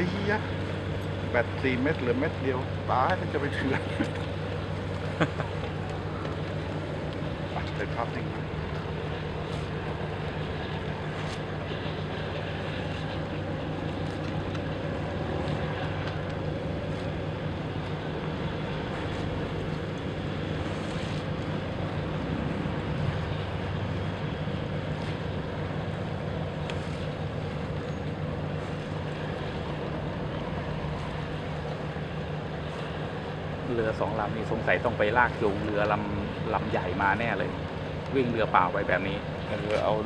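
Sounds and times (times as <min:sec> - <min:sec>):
boat engine drone: 0:00.0 - 0:40.0
wind: 0:00.0 - 0:40.0.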